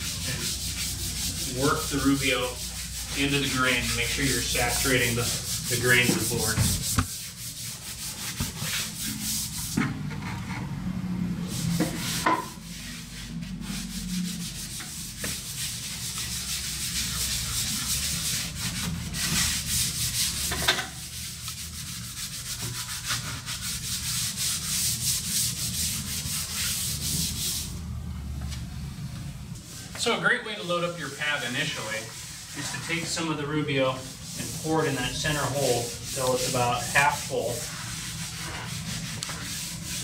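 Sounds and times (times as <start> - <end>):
pad scrubbing wooden floor: 0.0 - 9.8, 11.4 - 27.7, 30.0 - 40.0.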